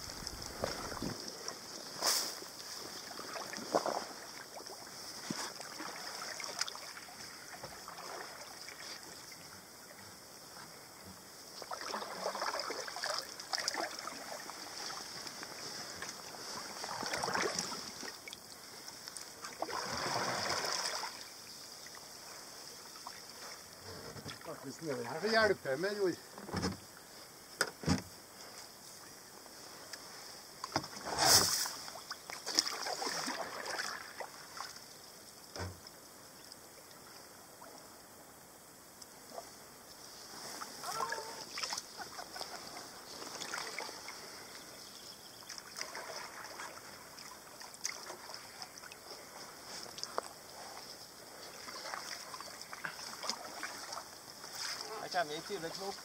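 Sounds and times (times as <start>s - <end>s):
paddle dipping and dripping water: 0.0s - 25.4s, 26.2s - 38.1s, 38.9s - 56.0s.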